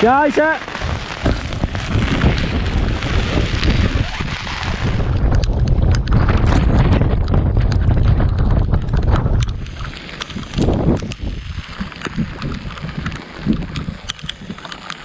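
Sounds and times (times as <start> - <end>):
wind buffeting microphone: 0.0 - 14.7
driving rain: 0.0 - 15.0
heavy low rumble: 0.6 - 13.0.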